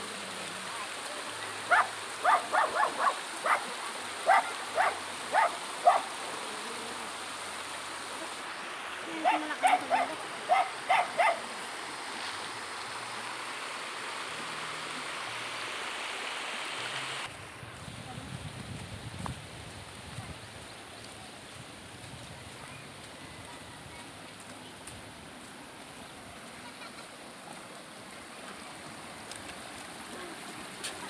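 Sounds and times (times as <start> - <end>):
flowing river water: 0.0 - 31.0.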